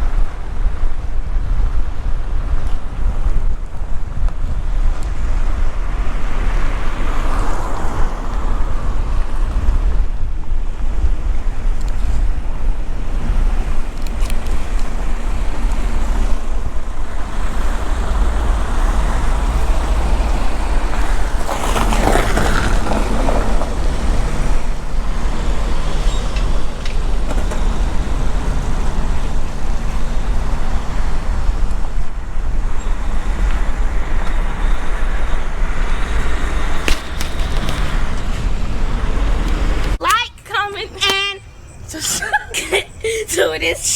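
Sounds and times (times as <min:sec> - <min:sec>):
truck engine rumble: 0:00.0 - 0:43.9.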